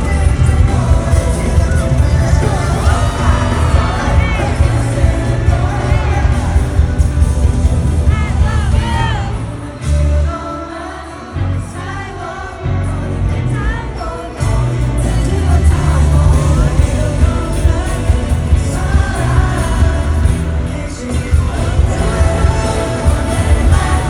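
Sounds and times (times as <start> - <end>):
pop song with heavy bass beat: 0.0 - 24.0.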